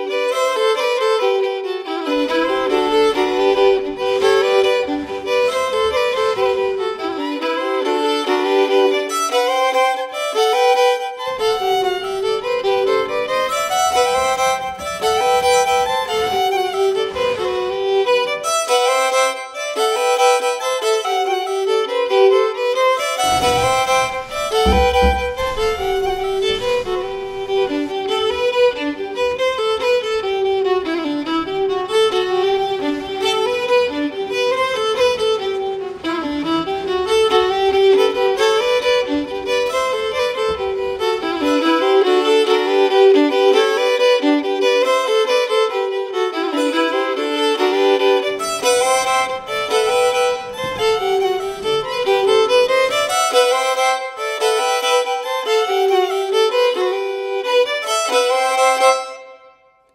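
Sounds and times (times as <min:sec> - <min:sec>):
two violins playing: 0:00.0 - 0:59.9.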